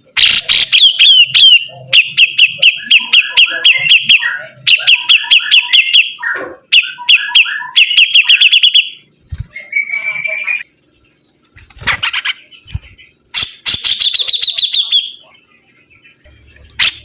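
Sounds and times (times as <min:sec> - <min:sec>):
songbird chirping and trilling: 0:00.0 - 0:17.0.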